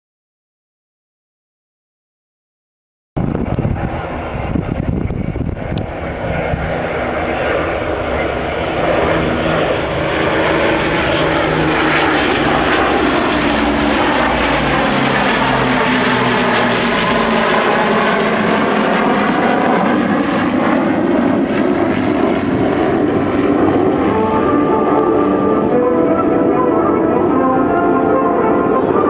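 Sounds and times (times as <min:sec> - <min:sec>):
aircraft engines droning past: 0:03.2 - 0:29.0.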